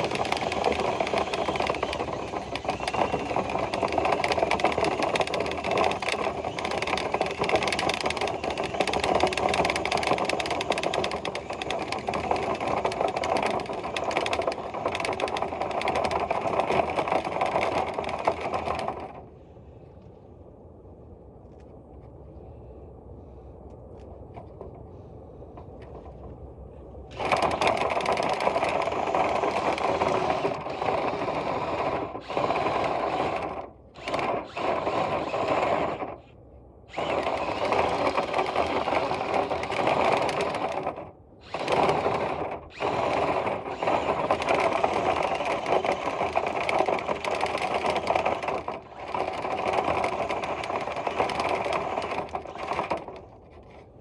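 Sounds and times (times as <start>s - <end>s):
rotary brush power tool whirring: 0.0s - 19.2s, 27.1s - 36.2s, 36.9s - 53.3s.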